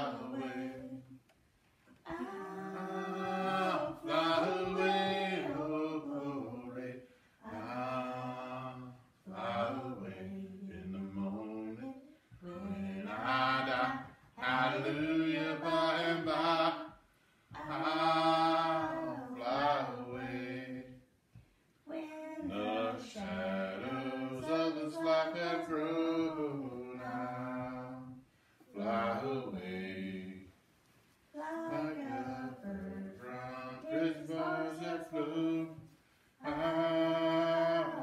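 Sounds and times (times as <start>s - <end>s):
a cappella hymn singing: 0.0s - 30.6s, 31.3s - 38.0s.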